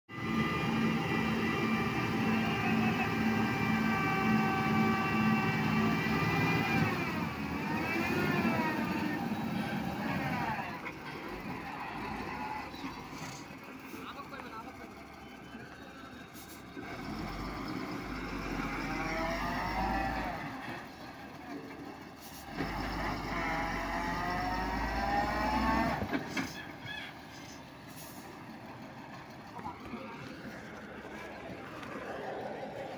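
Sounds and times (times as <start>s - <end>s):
diesel truck engine whining: 0.1s - 32.9s.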